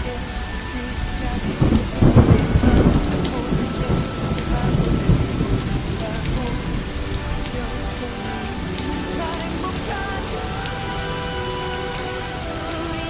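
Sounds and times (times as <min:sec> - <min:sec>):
steady rain falling: 0:00.0 - 0:13.0
thunder rumbling: 0:00.0 - 0:13.0.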